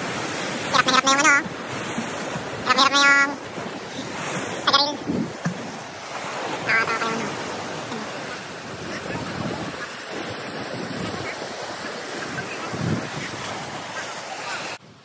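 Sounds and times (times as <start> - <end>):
surf breaking against rocks: 0.0 - 14.8
wind gusting on microphone: 1.3 - 15.0.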